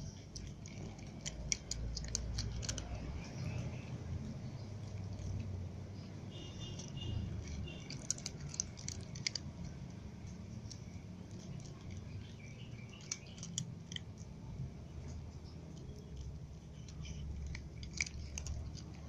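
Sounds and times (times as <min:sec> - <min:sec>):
cats crunching dry kibble: 0:00.0 - 0:05.7, 0:06.3 - 0:19.0.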